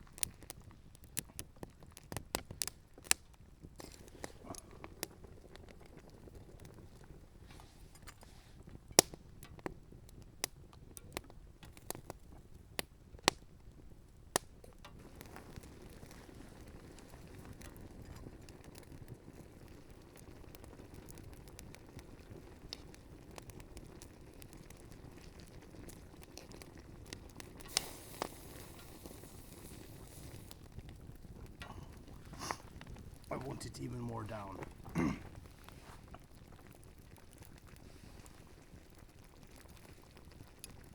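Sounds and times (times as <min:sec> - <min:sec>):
campfire crackling and popping: 0:00.0 - 0:40.9
pot boiling hiss: 0:00.0 - 0:40.9.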